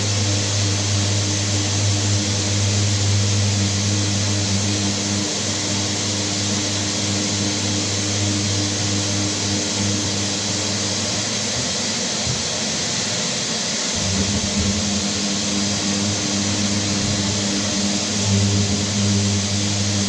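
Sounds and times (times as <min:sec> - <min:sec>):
electric sander humming: 0:00.0 - 0:20.0.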